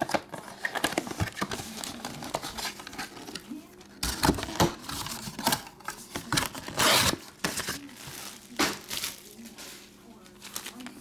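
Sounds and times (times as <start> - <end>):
foil wrappers tearing and crinkling: 0.0 - 3.4, 4.0 - 9.6, 10.3 - 11.0.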